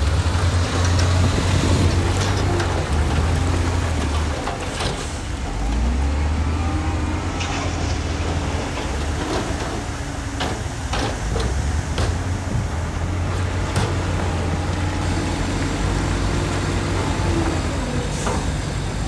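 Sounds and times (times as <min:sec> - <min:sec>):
diesel earthmoving machinery running: 0:00.0 - 0:19.0.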